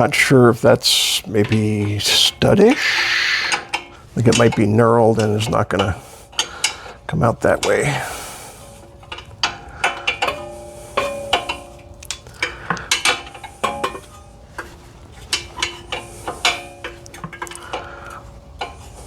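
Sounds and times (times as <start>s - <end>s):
metal tools clinking: 0.0s - 19.0s.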